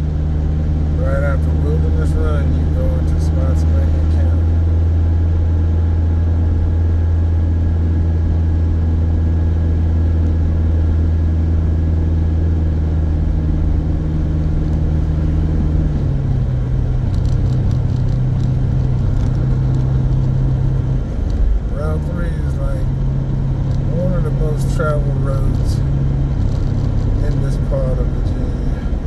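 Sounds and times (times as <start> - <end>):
car engine drone: 0.0 - 29.0
road noise: 0.0 - 29.0.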